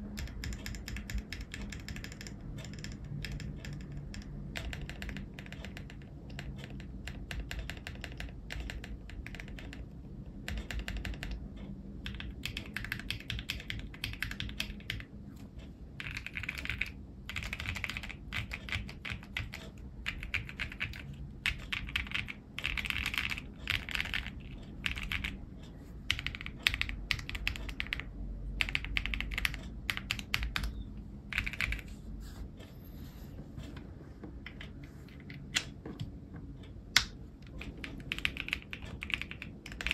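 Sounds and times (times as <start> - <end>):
mechanical keyboard typing: 0.0 - 32.0, 34.4 - 39.9.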